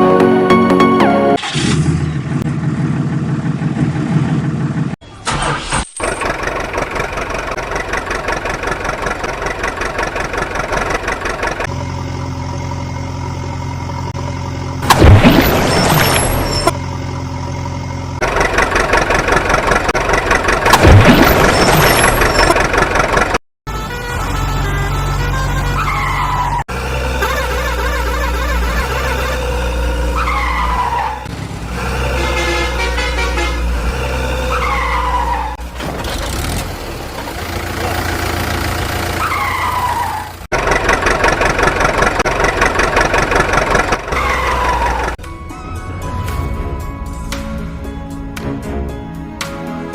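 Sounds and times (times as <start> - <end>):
truck engine running: 0.0 - 49.9.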